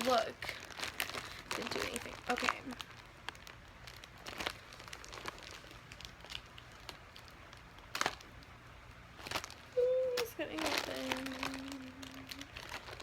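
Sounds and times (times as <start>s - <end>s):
package wrapping crinkling: 0.0s - 13.0s.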